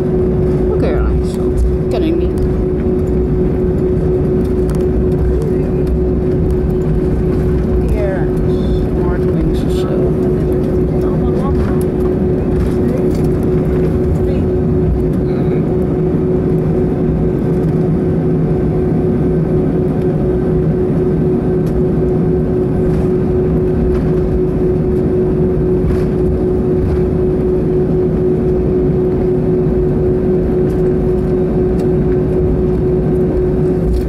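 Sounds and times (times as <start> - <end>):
constant hum: 0.0 - 34.0
jet engines droning: 0.0 - 34.0.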